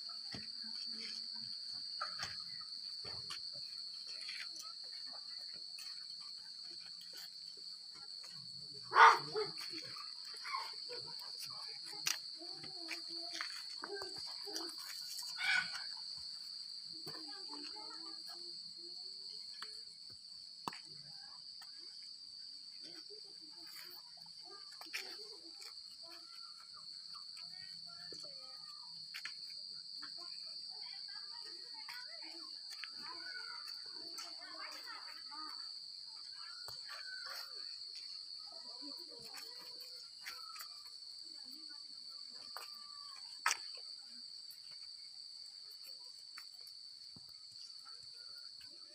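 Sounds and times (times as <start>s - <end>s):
crickets chirping: 0.0s - 48.9s
insects chorus: 0.0s - 48.9s.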